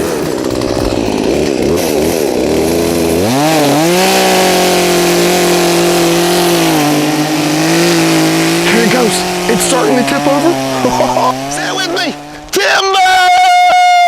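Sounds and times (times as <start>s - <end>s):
chainsaw cutting tree: 0.0s - 14.0s.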